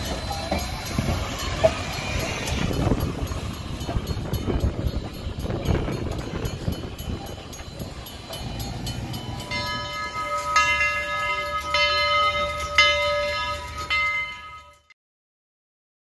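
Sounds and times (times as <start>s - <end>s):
bell ringing: 0.0s - 14.9s
passing train rumble: 0.0s - 14.9s.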